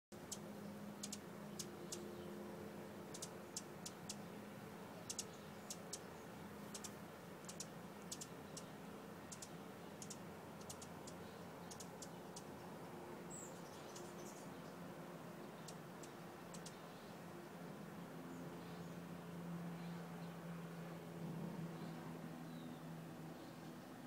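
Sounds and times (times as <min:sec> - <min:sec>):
hummingbird singing: 0:00.2 - 0:24.0.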